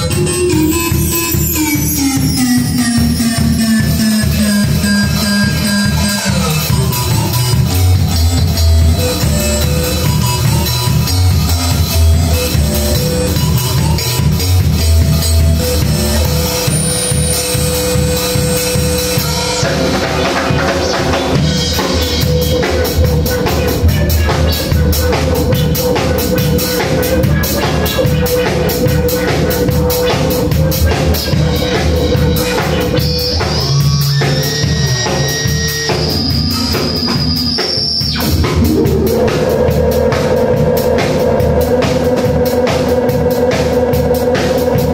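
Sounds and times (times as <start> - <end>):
analog synthesizer tones: 0.0 - 44.9
drum kit playing a steady beat: 0.0 - 44.9.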